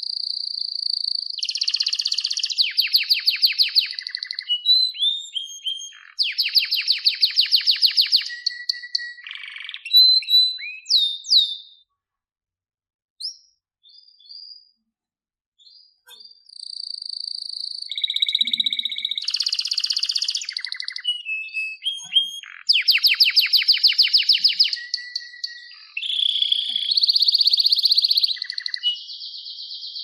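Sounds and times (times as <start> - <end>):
canary singing trills: 0.0 - 11.9, 15.6 - 30.0.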